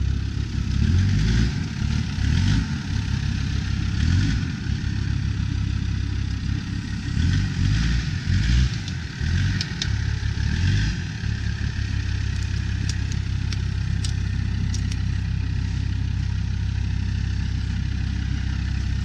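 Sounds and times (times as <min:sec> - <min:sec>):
diesel engine at low revs: 0:00.0 - 0:19.0.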